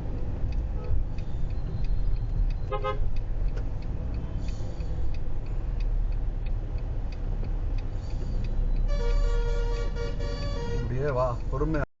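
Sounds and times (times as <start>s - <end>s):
car engine and road rumble: 0.0s - 11.9s
faint ticking: 0.0s - 11.9s.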